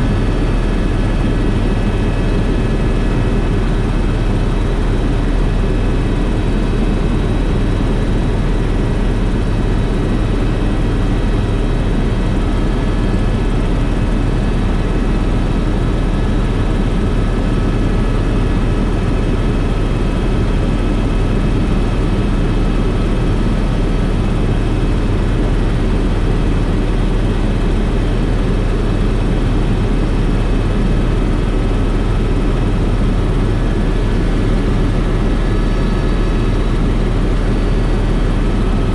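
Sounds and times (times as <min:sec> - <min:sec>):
helicopter engine and rotors drone: 0:00.0 - 0:38.9.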